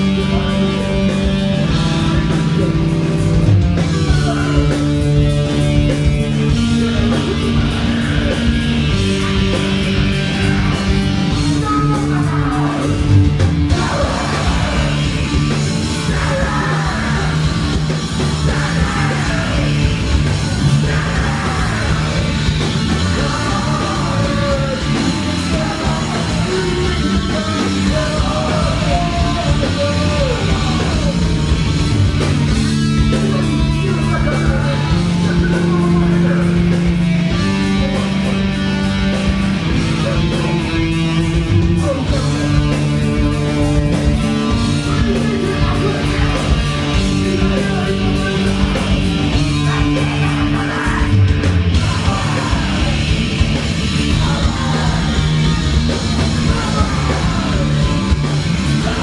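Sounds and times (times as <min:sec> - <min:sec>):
distorted guitar and bass: 0:00.0 - 0:59.0
heavy rock music: 0:00.0 - 0:59.0.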